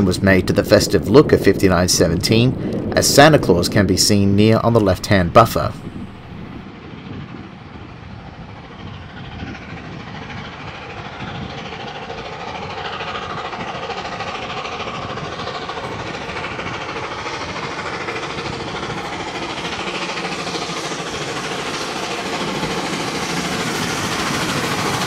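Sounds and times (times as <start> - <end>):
steam locomotive working: 0.0 - 25.0
train running on rails: 0.0 - 25.0.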